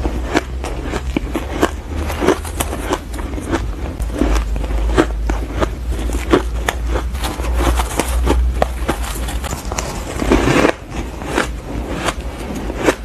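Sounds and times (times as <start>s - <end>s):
ice being chewed: 0.0s - 13.0s
steady low hum: 0.0s - 13.0s.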